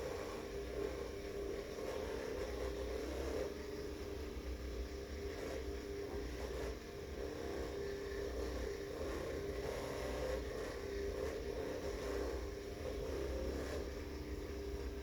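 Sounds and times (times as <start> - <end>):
massager motor hum: 0.0 - 15.0.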